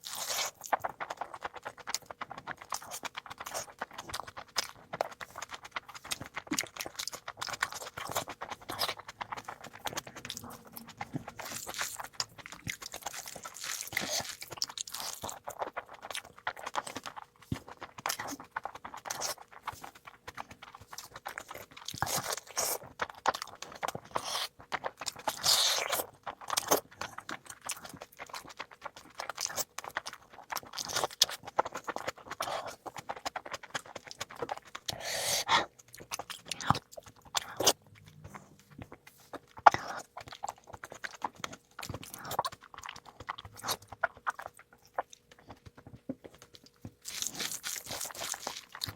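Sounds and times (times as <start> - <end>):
chewing with crunching: 0.0 - 48.9.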